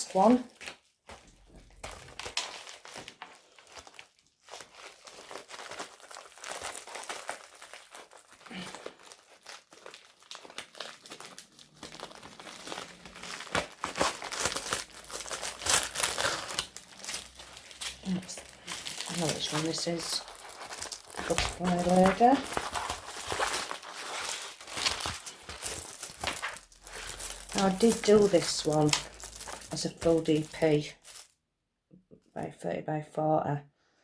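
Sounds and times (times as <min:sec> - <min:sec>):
plastic packaging crinkling: 0:00.0 - 0:31.4.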